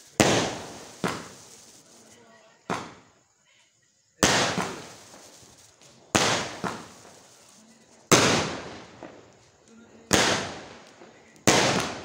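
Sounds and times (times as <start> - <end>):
small firework pop: 0.0 - 3.2, 4.2 - 12.0
fireworks bangs: 0.0 - 3.3, 4.2 - 12.0.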